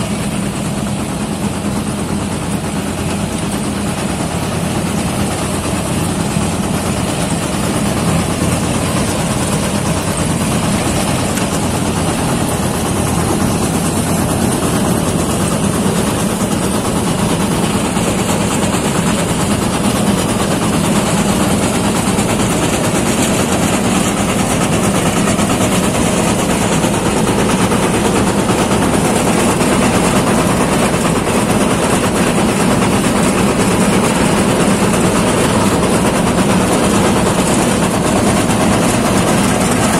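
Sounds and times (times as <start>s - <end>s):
combine harvester engine drone: 0.0s - 39.9s
harvester header cutting: 0.1s - 39.9s.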